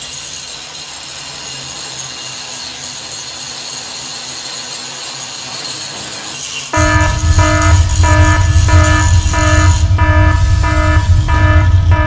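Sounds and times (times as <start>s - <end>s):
angle grinder cutting steel: 0.0s - 12.0s.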